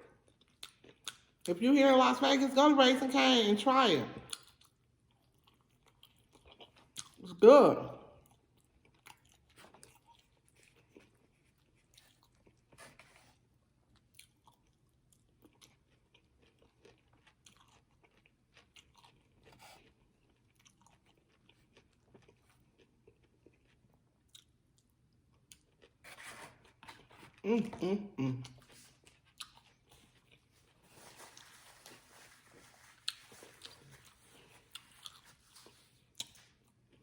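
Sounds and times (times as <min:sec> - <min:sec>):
person chewing: 0:00.2 - 0:01.5, 0:04.3 - 0:07.3, 0:08.2 - 0:37.0.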